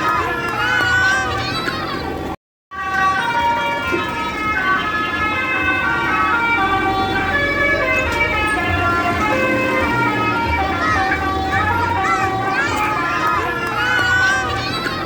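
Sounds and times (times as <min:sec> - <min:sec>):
bus multi-tone horn playing a tune: 0:02.1 - 0:14.9.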